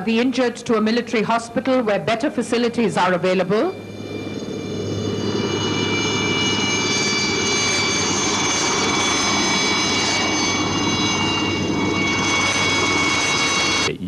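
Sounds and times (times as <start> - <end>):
helicopter engine and rotor noise: 0.0 - 14.0
helicopter turbine whine: 0.0 - 14.0.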